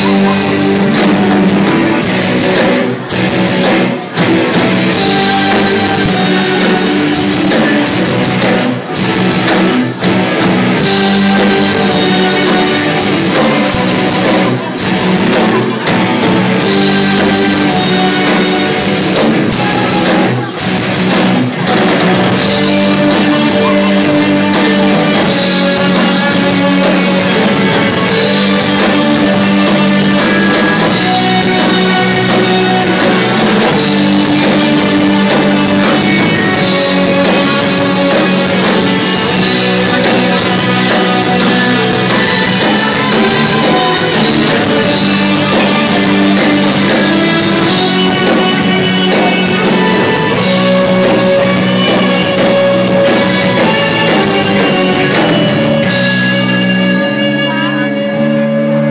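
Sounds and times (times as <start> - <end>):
drum kit: 0.0 - 58.9
electric guitars strummed: 0.0 - 58.9.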